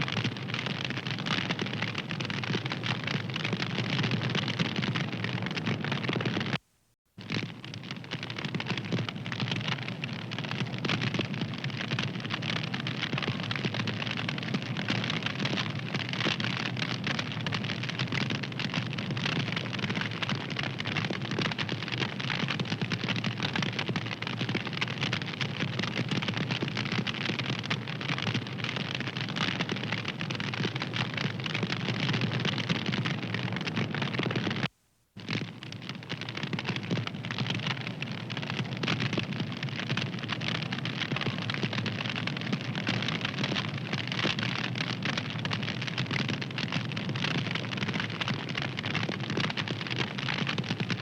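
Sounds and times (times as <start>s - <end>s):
fire crackling: 7.2s - 50.9s.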